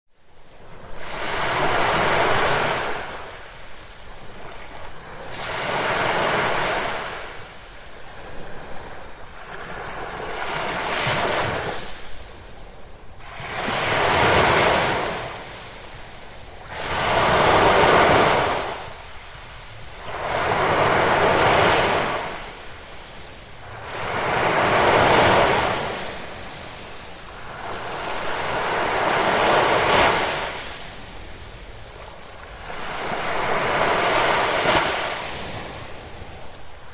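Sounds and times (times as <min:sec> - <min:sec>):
ocean waves breaking: 0:00.4 - 0:36.9.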